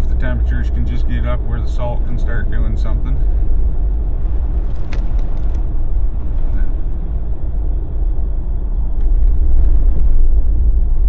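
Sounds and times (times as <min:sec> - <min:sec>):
car driving on snowy road: 0:00.0 - 0:11.0.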